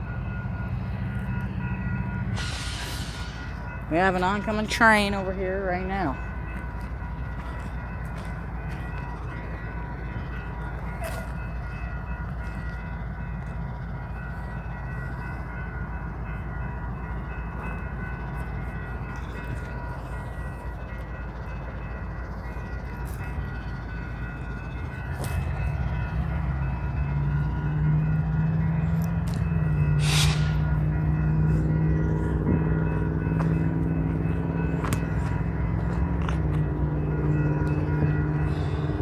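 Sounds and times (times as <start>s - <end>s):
freight train rumble: 0.0s - 39.0s.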